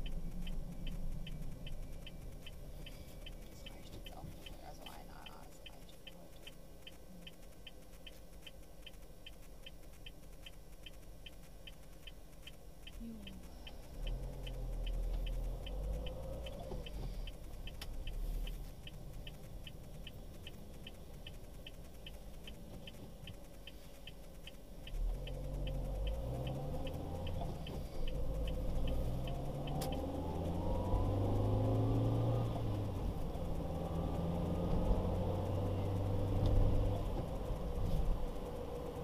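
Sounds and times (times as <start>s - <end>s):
car engine and tyres rumbling: 0.0s - 39.0s
turn signal ticking: 0.0s - 39.0s.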